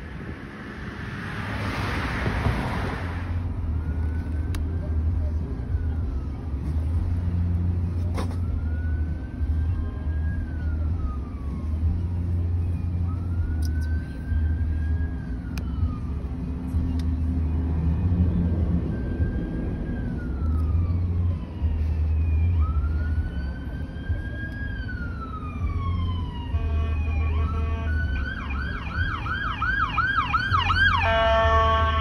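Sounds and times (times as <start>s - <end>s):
ambulance siren: 0.0s - 32.0s
low rumble of traffic: 0.0s - 32.0s.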